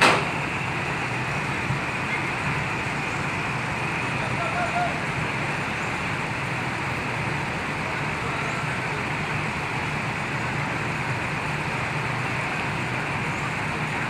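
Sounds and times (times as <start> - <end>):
bus diesel engine idling: 0.0 - 14.0
busy bus terminal din: 0.0 - 14.0.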